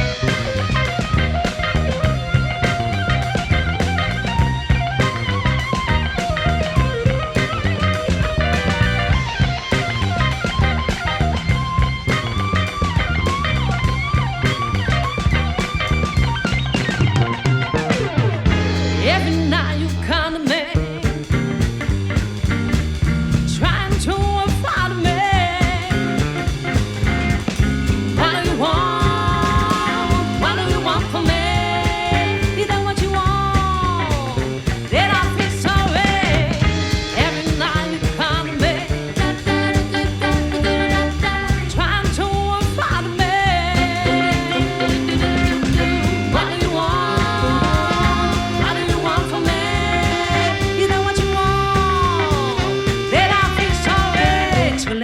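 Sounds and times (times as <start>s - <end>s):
live band playing: 0.0s - 55.0s
melodic lead line bending: 0.0s - 55.0s.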